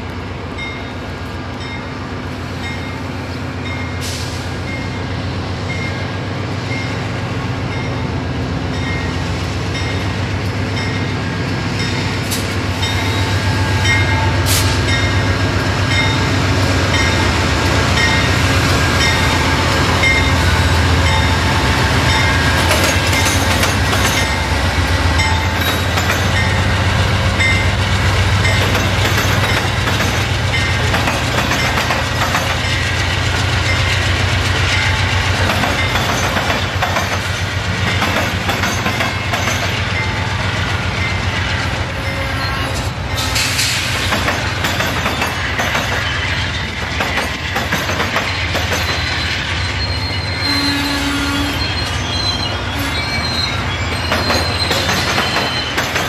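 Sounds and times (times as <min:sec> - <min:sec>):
diesel locomotive rumble: 0:00.0 - 0:56.0
train wheels clicking on rails: 0:08.8 - 0:42.0, 0:42.7 - 0:50.5, 0:51.5 - 0:56.0.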